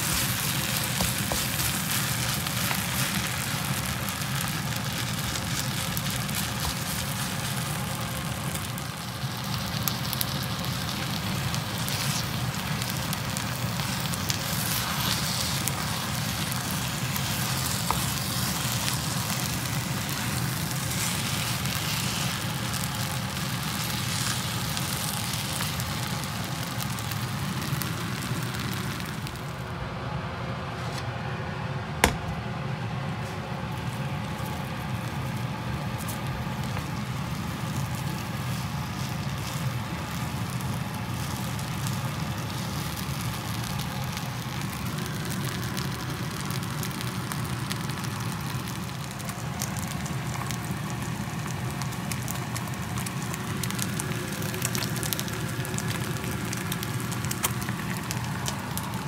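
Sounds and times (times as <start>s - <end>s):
fried rice sizzling and crackling: 0.0s - 29.6s, 33.2s - 59.0s.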